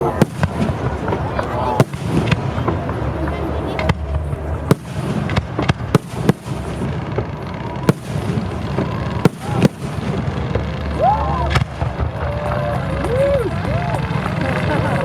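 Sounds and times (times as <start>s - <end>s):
fireworks bursting with bangs: 0.0s - 15.0s.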